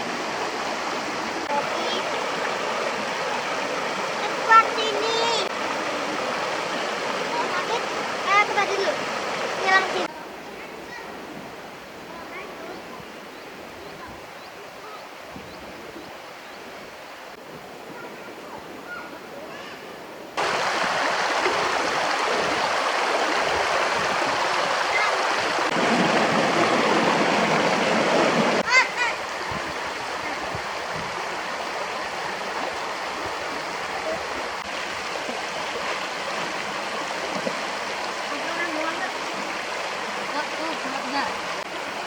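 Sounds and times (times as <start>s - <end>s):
flowing stream rushing: 0.0s - 42.0s.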